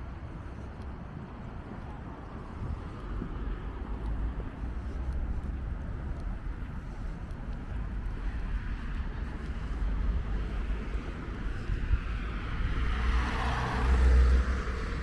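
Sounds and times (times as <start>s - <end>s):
street traffic: 0.0s - 15.0s
wind rumbling on microphone: 0.0s - 15.0s.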